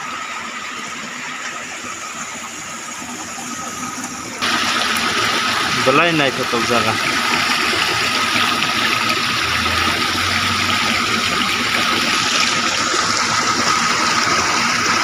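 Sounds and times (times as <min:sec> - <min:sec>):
water splashing over rocks: 0:00.0 - 0:15.0.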